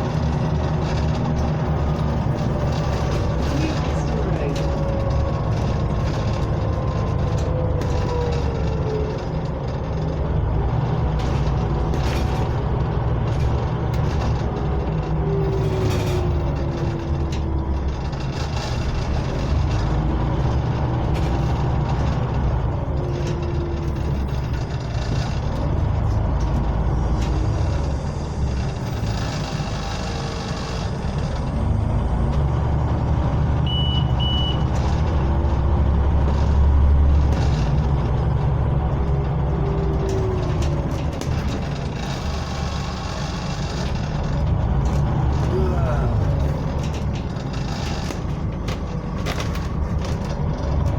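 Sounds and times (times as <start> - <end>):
bus body rattling: 0.0 - 50.9
bus drivetrain rumble: 0.0 - 50.9.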